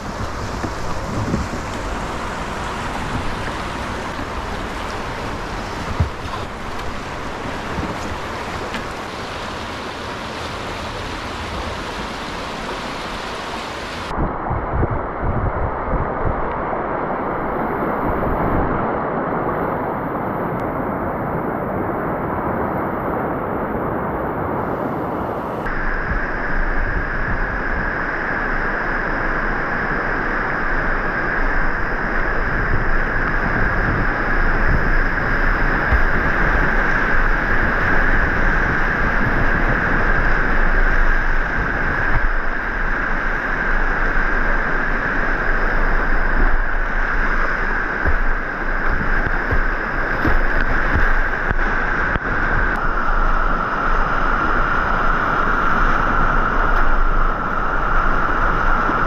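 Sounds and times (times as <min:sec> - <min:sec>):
rushing river whitewater: 0:00.0 - 0:14.1, 0:16.6 - 0:59.0
wind buffeting microphone: 0:00.0 - 0:59.0.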